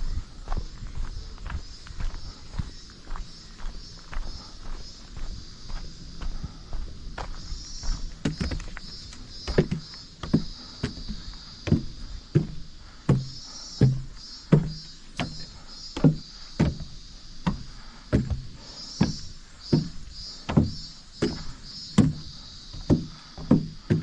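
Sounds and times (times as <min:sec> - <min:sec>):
footsteps on dirt trail: 0:00.0 - 0:24.0.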